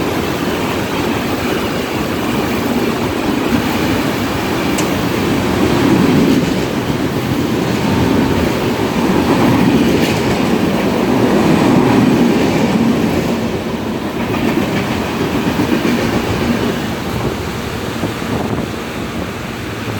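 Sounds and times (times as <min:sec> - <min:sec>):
passenger train rumbling on rails: 0:00.0 - 0:19.9.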